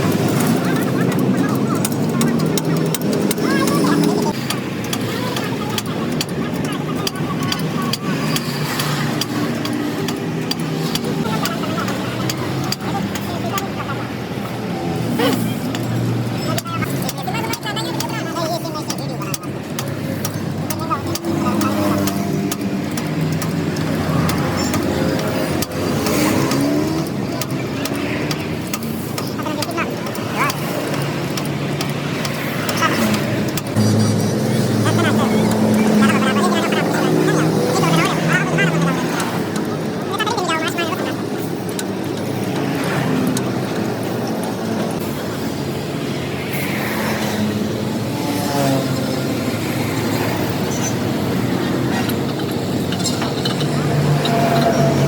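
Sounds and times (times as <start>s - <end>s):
sharp clicks: 0.0s - 14.3s, 15.0s - 47.3s
road traffic engines: 0.0s - 55.0s.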